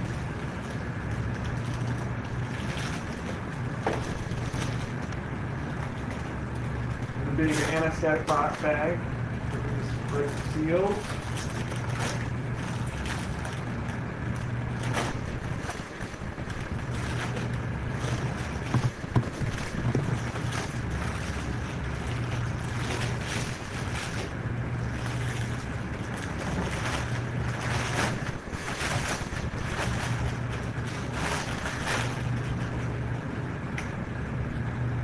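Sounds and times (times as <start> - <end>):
plastic bag crinkling: 0.0 - 33.0
low hum and air noise: 0.0 - 35.0.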